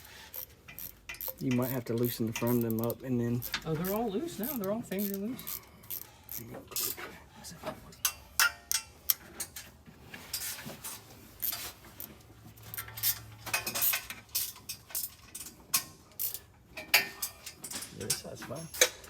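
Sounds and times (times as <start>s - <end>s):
metal tools clicking on bolts: 0.3s - 7.1s, 7.9s - 9.8s, 11.4s - 19.0s.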